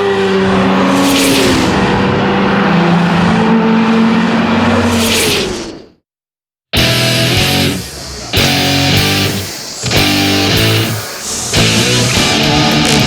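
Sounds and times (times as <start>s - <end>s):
cars rushing by: 0.0s - 6.0s, 7.6s - 13.0s
racing car engines: 0.0s - 6.0s, 6.8s - 13.0s.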